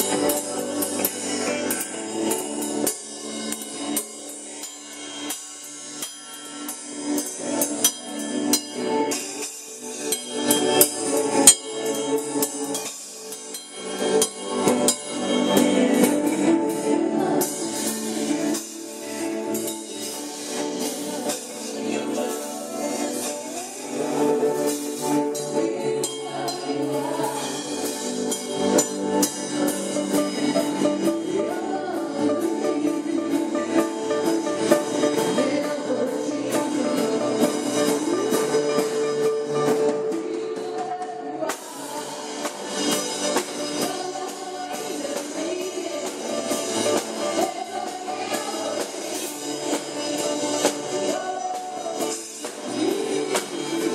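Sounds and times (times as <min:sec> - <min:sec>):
person singing: 0:00.0 - 0:04.9, 0:07.0 - 0:53.9
live band playing: 0:00.0 - 0:53.9.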